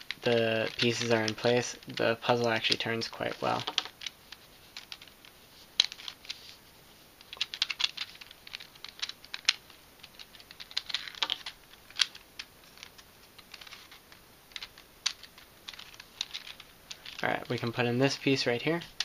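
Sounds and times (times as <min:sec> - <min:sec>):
plastic puzzle clicking: 0:00.1 - 0:06.4, 0:07.2 - 0:17.7.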